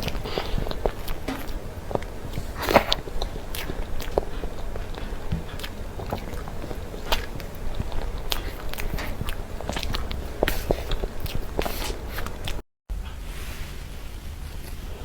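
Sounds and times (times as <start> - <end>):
wet chewing mouth clicks: 0.0 - 12.6.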